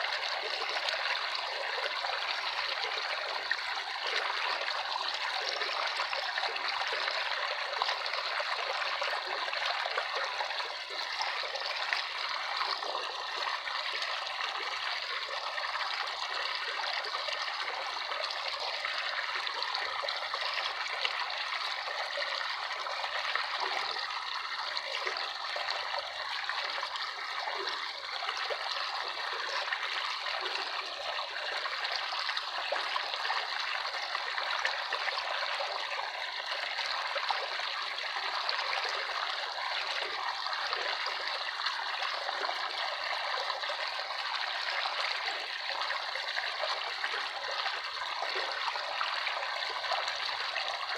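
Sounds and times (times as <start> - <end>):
water trickling: 0.0 - 50.9.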